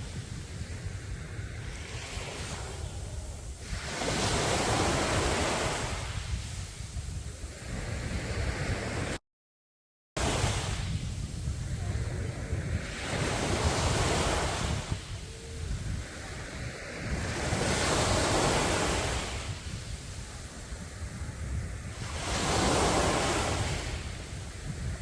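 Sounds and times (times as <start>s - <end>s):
sea waves breaking on a beach: 0.0s - 9.2s, 10.2s - 25.0s.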